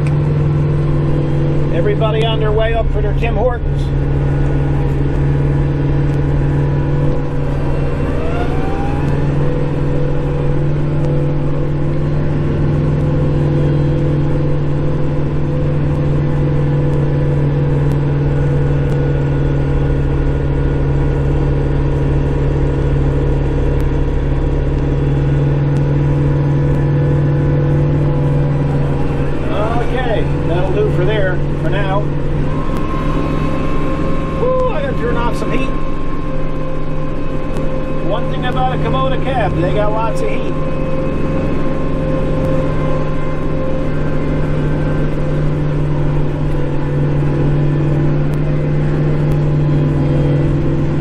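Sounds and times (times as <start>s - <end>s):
tractor diesel engine hum: 0.0s - 51.0s.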